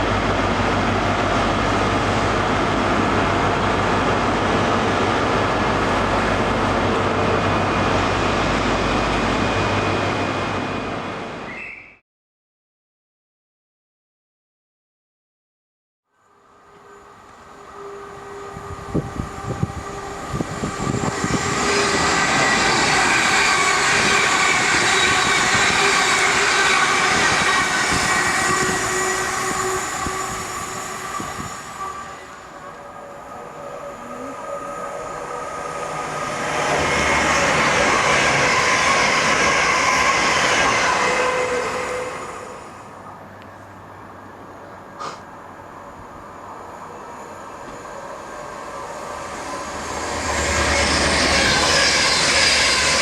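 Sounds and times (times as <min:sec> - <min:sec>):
train passing on rails: 0:00.0 - 0:11.8, 0:16.2 - 0:53.0.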